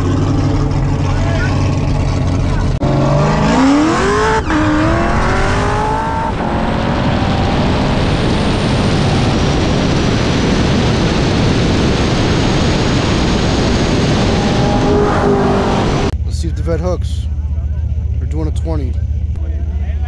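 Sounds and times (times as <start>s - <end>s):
car engine at full throttle: 0.0s - 20.0s
wind and road roar: 0.0s - 20.0s.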